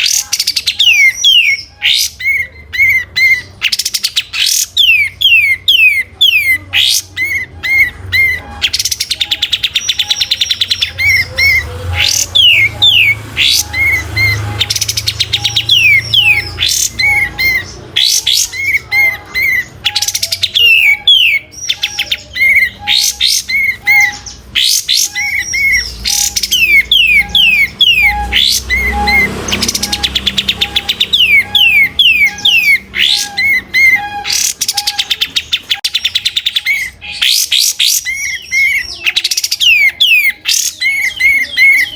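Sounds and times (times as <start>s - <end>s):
bulbul singing loudly: 0.0s - 41.9s.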